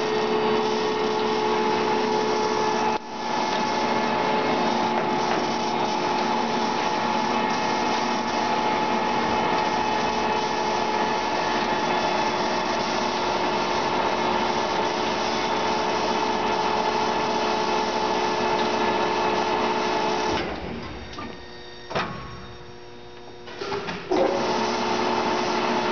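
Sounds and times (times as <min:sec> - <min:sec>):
lathe running with whine: 0:00.0 - 0:20.7, 0:24.2 - 0:25.9.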